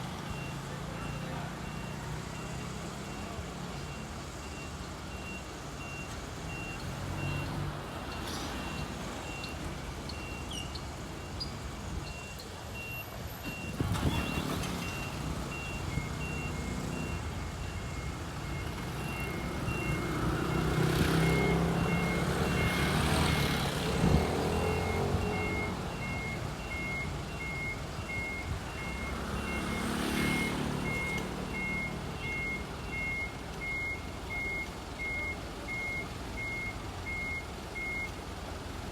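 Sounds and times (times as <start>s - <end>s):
truck engines running: 0.0s - 38.9s
lower-pitched reversing alarm: 0.2s - 38.1s
reversing alarm beeps: 0.2s - 38.2s.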